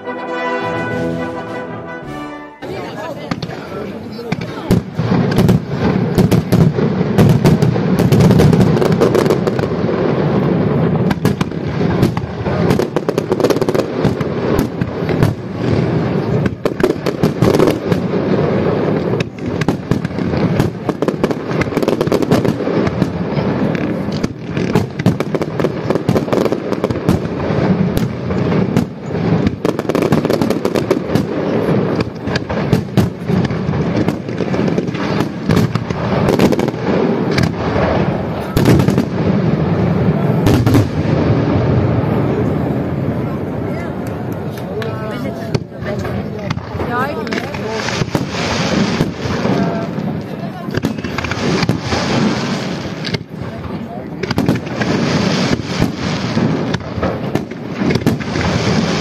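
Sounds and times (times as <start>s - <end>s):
fireworks banging: 0.0s - 59.0s.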